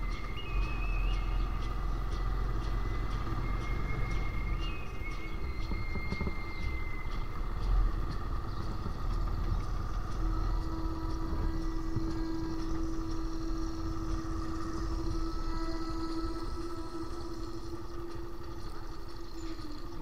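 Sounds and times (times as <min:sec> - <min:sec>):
wind rumble on microphone: 0:00.0 - 0:20.0
motorcycle engine running: 0:00.1 - 0:20.0.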